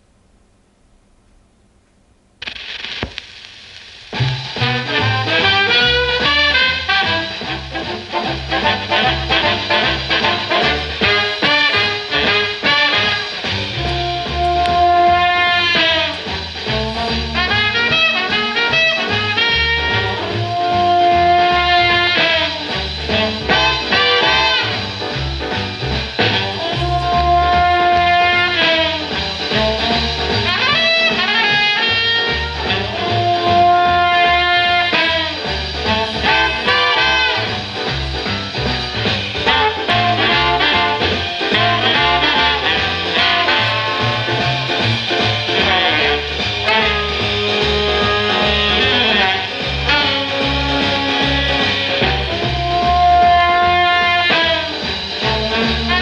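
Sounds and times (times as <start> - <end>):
swing band music on record: 2.4 - 56.0.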